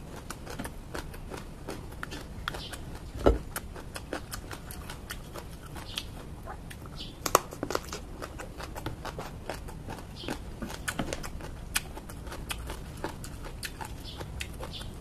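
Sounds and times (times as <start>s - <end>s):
crisp biting and chewing: 0.0s - 15.0s.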